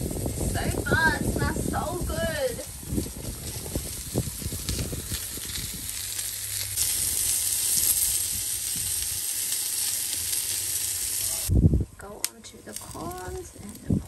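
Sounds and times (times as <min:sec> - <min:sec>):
meat sizzling on a grill: 0:00.0 - 0:11.5, 0:12.7 - 0:14.0.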